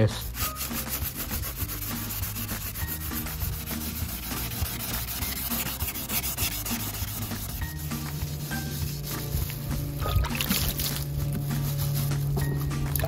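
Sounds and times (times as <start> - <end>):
sanding sponge scratching putty: 0.0 - 10.0, 10.7 - 13.0.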